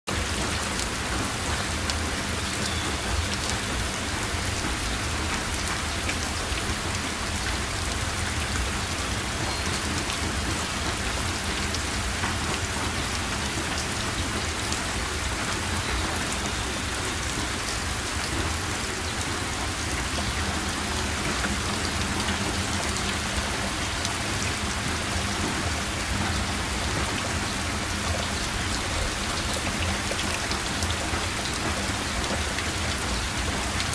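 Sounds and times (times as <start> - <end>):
heavy rain on a metal roof: 0.1 - 33.9.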